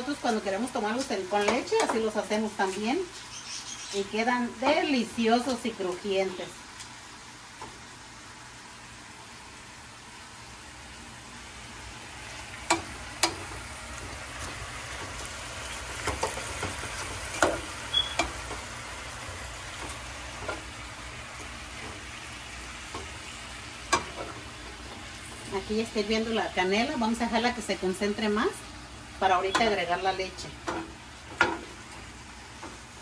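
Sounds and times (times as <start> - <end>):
food sizzling in syrup: 0.0 - 33.0.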